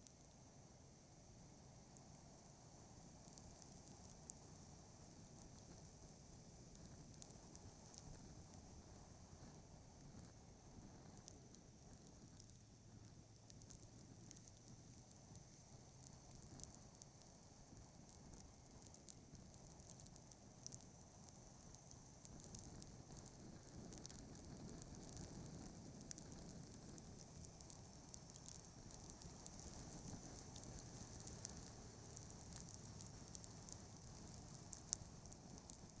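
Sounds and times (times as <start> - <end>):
faint irregular crackling: 0.0 - 36.0
high-pitched hiss: 0.0 - 36.0.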